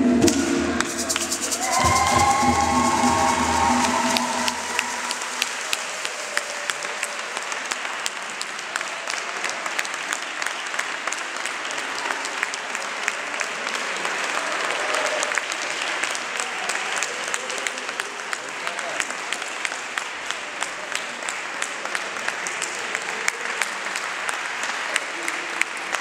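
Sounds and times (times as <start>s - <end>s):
congregation applauding: 0.0s - 26.0s.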